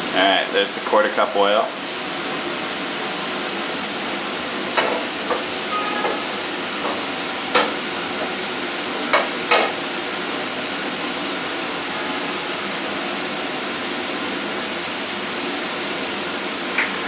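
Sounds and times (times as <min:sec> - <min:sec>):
range hood fan and gas burner: 0:00.0 - 0:17.0.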